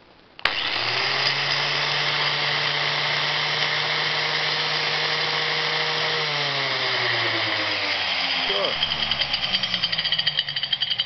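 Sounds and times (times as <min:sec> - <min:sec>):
angle grinder motor running: 0:00.4 - 0:11.0.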